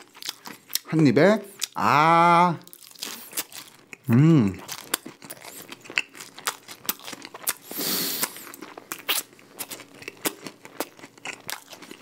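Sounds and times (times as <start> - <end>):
chewing crispy chicken crunches: 0.0 - 1.8, 2.7 - 12.0.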